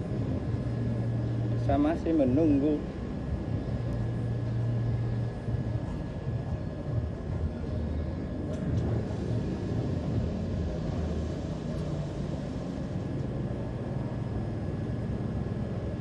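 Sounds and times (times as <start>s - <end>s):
faint high whine: 0.0s - 16.0s
low background rumble: 0.0s - 16.0s.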